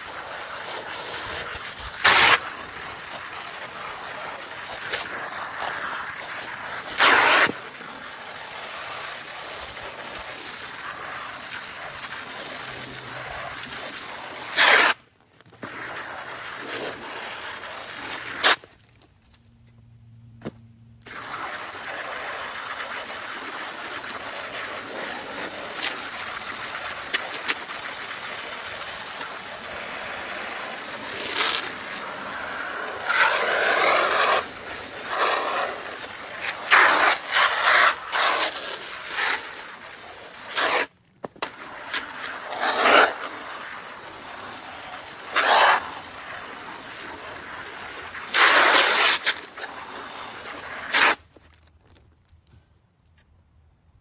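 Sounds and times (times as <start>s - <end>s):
hose nozzle spraying water: 0.0s - 18.7s, 21.1s - 51.2s.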